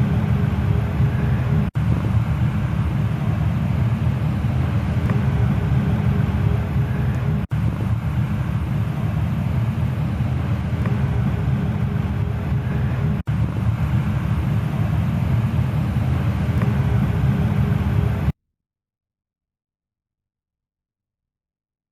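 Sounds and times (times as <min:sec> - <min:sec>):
gas furnace rumbling: 0:00.0 - 0:18.4.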